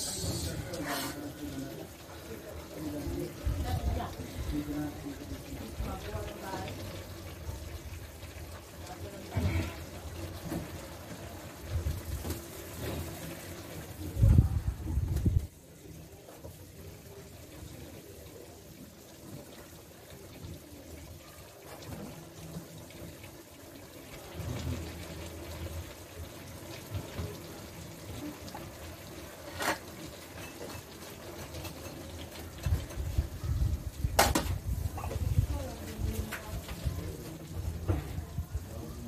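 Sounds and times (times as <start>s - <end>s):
food sizzling in a wok: 0.0s - 39.0s.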